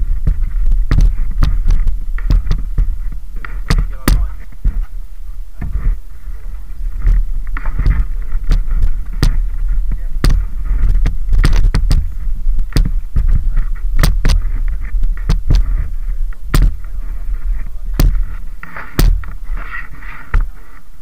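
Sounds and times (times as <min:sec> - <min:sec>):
low rumble: 0:00.0 - 0:20.1.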